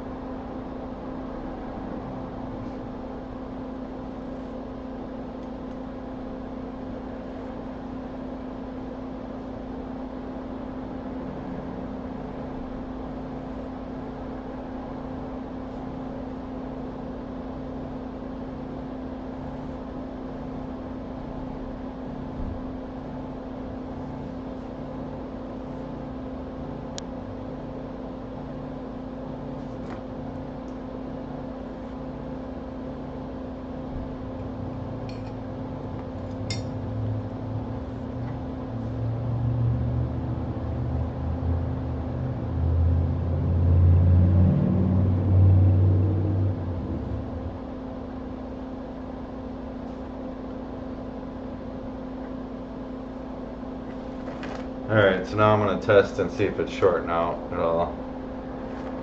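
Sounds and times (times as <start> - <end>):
fume-extractor fan humming: 0.0 - 59.0.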